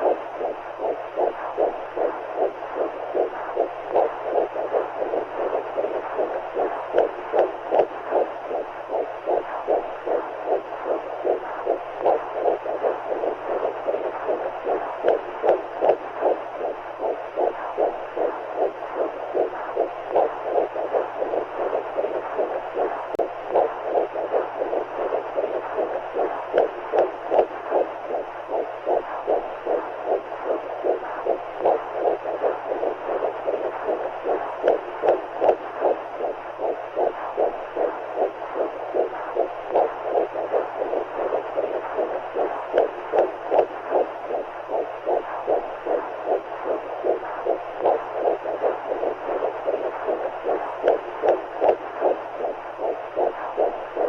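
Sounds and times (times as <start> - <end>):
faint low hum: 0.0 - 54.0
pulsing whooshing heartbeat: 0.0 - 54.0.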